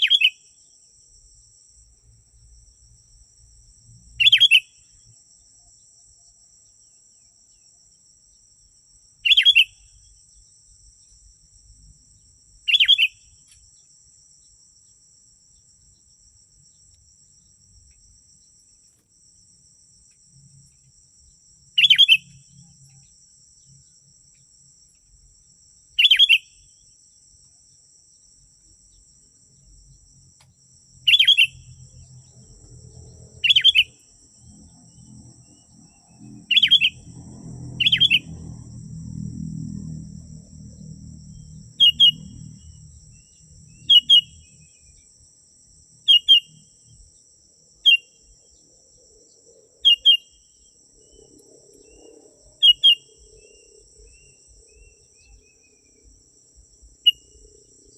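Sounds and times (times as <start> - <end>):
high-pitched insect trill: 0.0 - 57.9.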